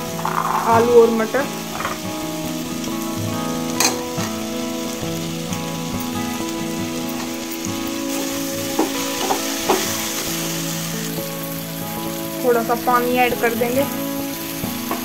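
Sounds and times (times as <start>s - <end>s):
potatoes and peas sizzling: 0.0s - 15.0s.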